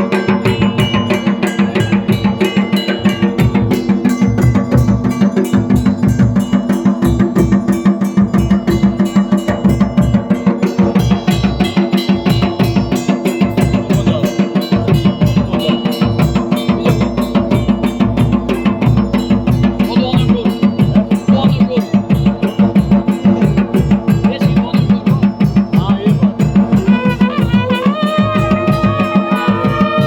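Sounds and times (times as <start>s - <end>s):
drums beating fast rhythm: 0.0s - 30.0s.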